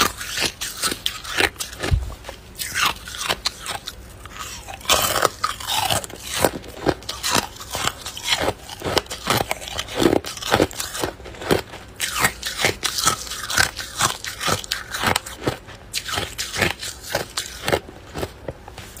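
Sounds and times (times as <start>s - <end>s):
ice cubes crunching in chewing: 0.0s - 19.0s.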